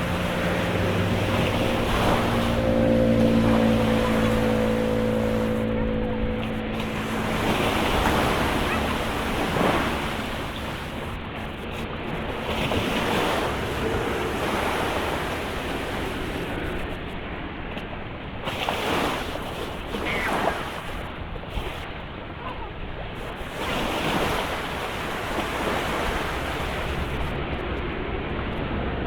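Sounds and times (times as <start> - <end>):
surf washing onto beach: 0.0 - 28.5
wind buffeting microphone: 0.0 - 29.0.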